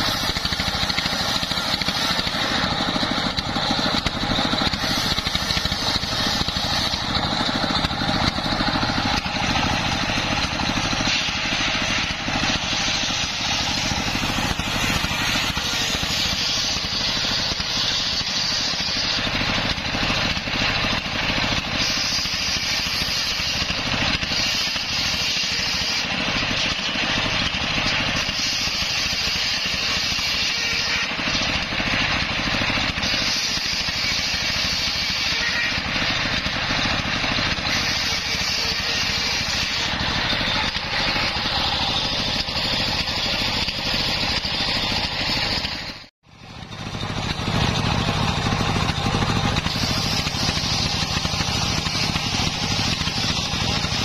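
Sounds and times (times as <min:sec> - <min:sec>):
circular saw cutting wood: 0:00.0 - 0:54.0
diesel engine running: 0:00.0 - 0:54.0.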